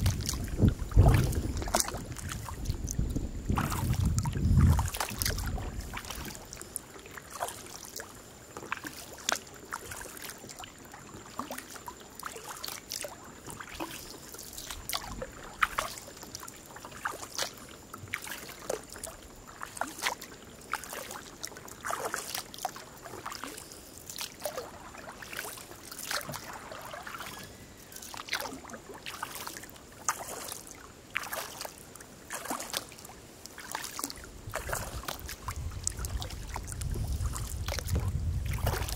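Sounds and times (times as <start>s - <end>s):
paddle splashing and dripping: 0.0s - 38.9s
water trickling along hull: 0.0s - 38.9s.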